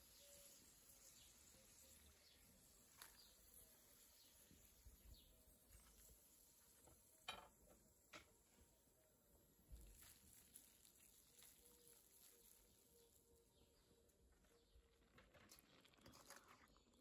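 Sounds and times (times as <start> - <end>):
frying oil bubbling: 0.0 - 8.9, 9.5 - 13.5, 14.7 - 17.0.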